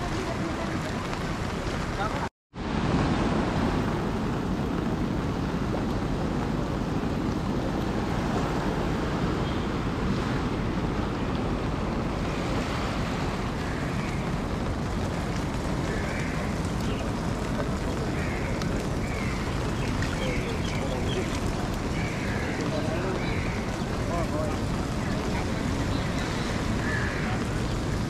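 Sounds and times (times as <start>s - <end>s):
river rushing: 0.0s - 28.0s
wind buffeting microphone: 0.0s - 28.0s.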